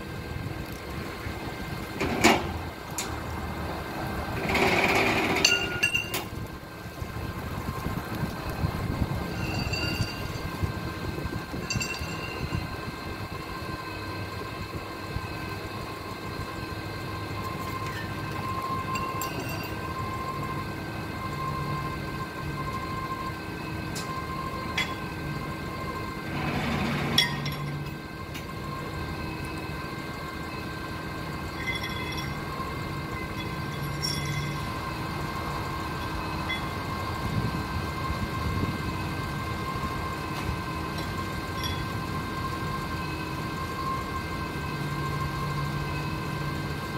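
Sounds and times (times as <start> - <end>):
forklift engine idling: 0.0 - 46.9.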